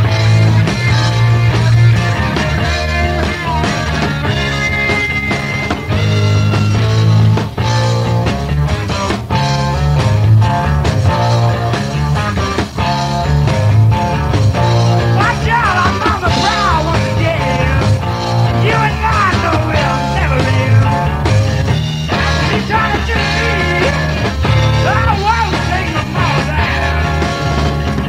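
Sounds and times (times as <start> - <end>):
bending lead guitar line: 0.0 - 28.0
rock band playing: 0.0 - 28.0.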